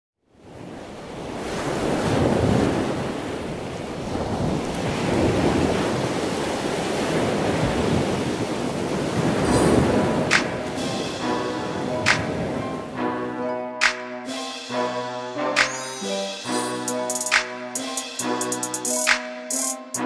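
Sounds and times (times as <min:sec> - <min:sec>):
ocean waves rushing: 0:00.4 - 0:20.0.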